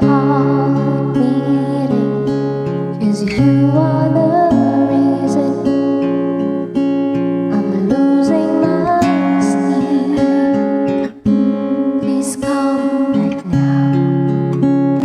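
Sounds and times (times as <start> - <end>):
woman singing: 0.0 - 14.0
acoustic guitar plucked and strummed: 0.0 - 15.0.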